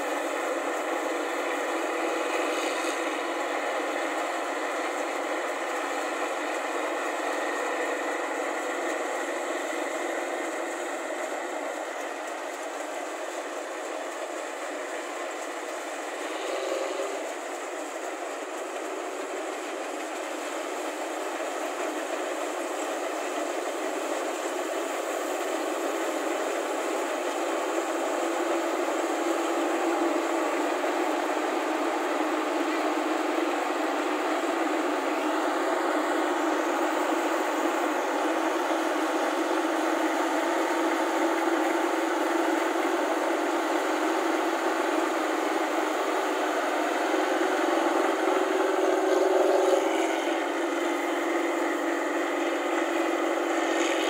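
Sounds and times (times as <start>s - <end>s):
combine harvester machinery running: 0.0s - 54.0s.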